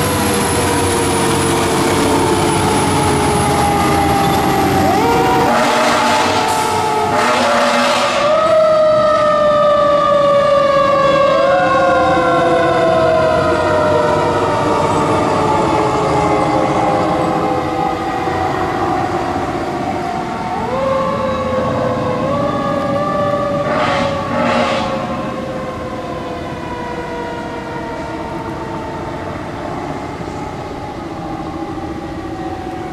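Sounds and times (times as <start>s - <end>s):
fire truck siren wailing: 0.0s - 32.9s
heavy trucks rumbling: 0.0s - 32.9s.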